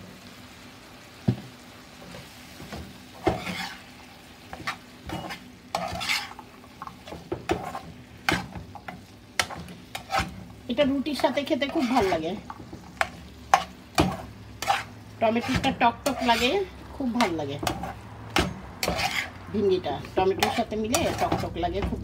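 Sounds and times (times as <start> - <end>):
faint sizzle: 0.0 - 22.0
spatula scraping a pan: 2.0 - 22.0.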